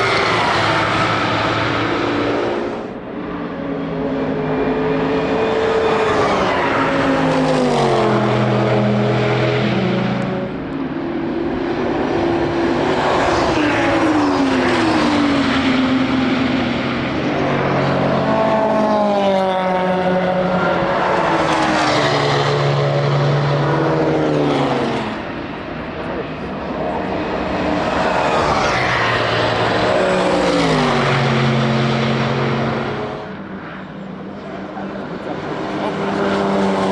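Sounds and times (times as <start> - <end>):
race cars passing: 0.0 - 36.9.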